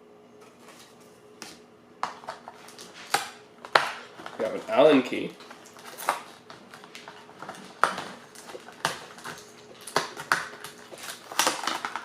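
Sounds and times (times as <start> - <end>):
plastic packaging crinkling: 2.4 - 12.0.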